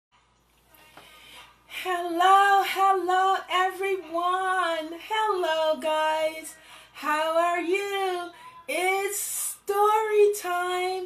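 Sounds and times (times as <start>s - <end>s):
woman singing: 0.7s - 11.0s.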